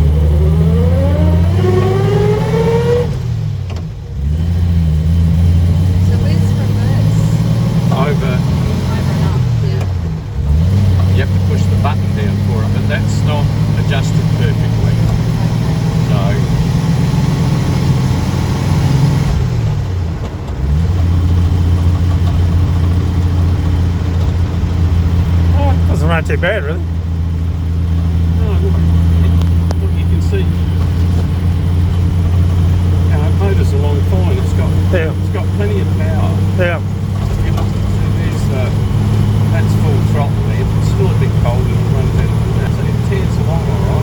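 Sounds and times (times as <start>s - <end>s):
car engine accelerating with whine: 0.0s - 44.0s.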